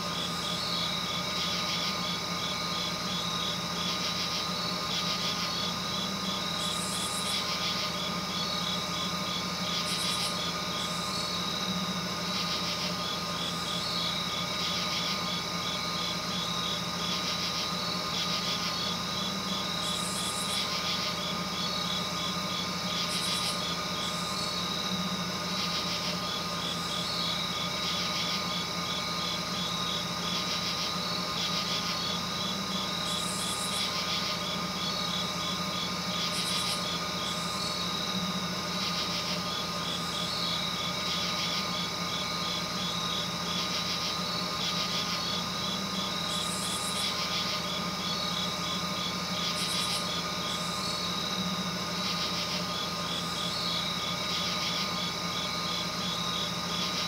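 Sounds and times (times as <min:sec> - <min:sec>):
rapid high insect chirps: 0:00.0 - 0:57.0
steady insect hum: 0:00.0 - 0:57.0.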